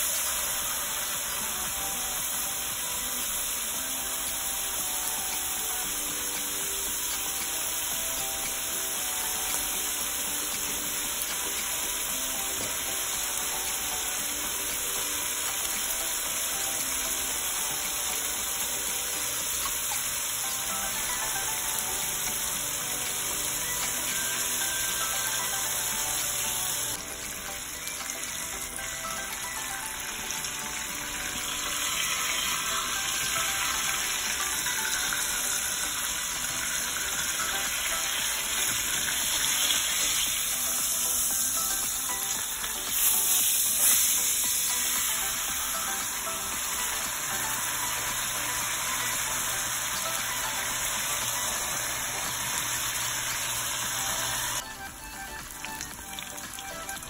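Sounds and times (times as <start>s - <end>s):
meat sizzling in hot oil: 0.0s - 57.0s.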